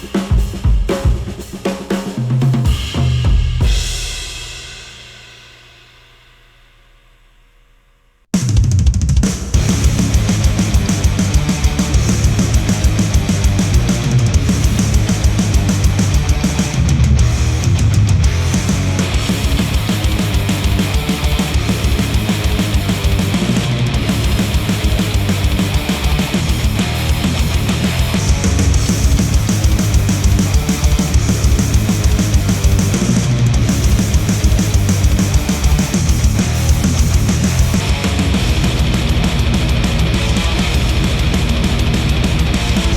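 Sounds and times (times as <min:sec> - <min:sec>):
drum-heavy music track: 0:00.0 - 0:42.9.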